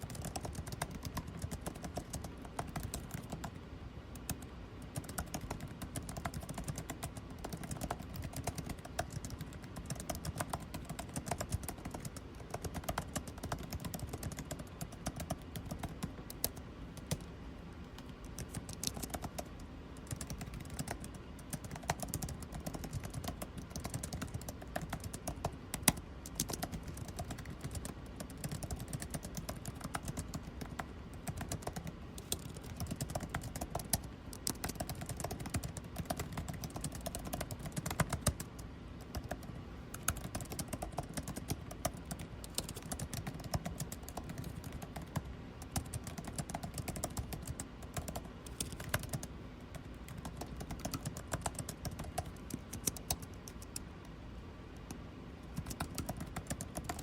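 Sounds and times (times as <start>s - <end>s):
computer keyboard typing: 0.0s - 54.1s, 54.8s - 57.0s
air conditioning hum: 0.0s - 57.0s.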